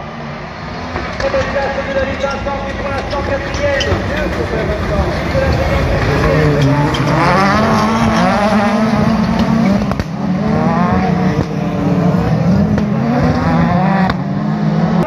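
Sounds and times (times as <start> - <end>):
racing cars at high revs: 0.0 - 15.0.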